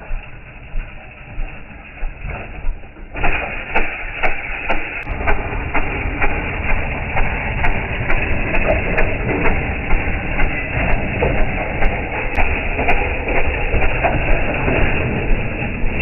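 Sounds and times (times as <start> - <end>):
small engine rumble with knocks: 0.0 - 16.0.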